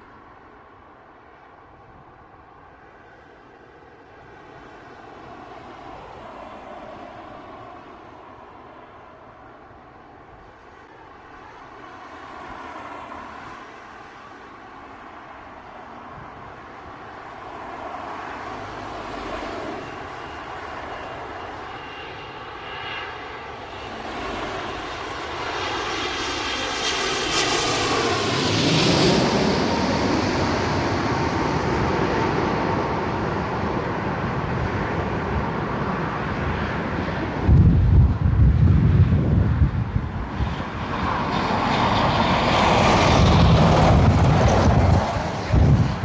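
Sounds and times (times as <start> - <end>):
jet engine whine: 0.0 - 46.0
jet engines roaring: 0.0 - 46.0.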